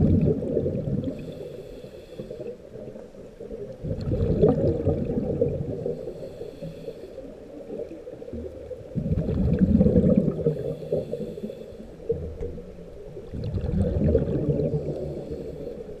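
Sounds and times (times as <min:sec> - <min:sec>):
muffled underwater water rushing: 0:00.0 - 0:16.0.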